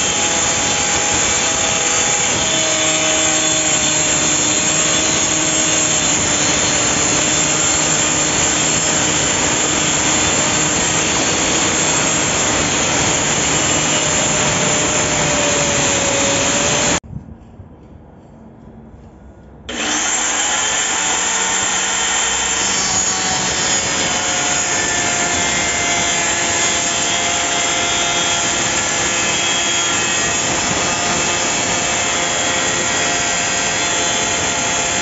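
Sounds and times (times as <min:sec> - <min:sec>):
circular saw cutting wood: 0:00.0 - 0:17.0, 0:19.7 - 0:35.0.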